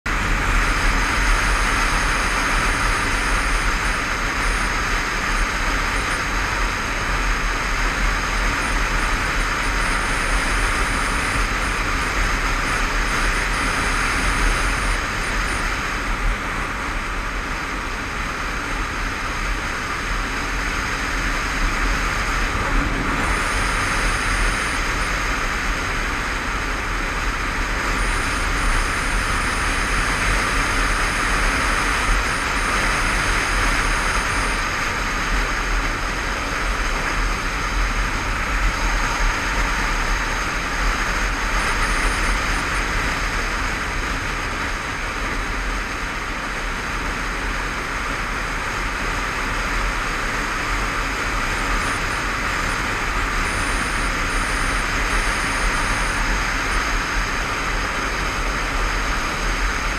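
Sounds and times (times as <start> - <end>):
motorcycle engine at road speed: 0.1 - 59.9
wind rushing over microphone: 0.1 - 59.9.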